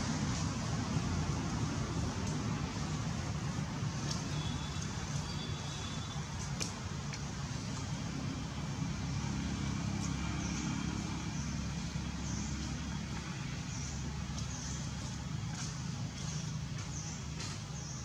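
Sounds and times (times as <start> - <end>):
engine rumbling: 0.0 - 18.0.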